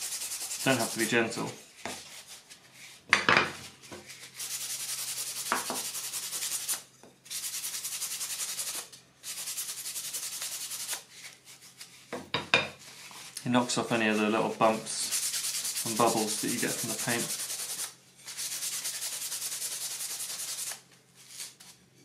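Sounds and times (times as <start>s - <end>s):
paper rubbing on wood: 0.0s - 3.0s, 4.0s - 12.1s, 12.9s - 21.6s.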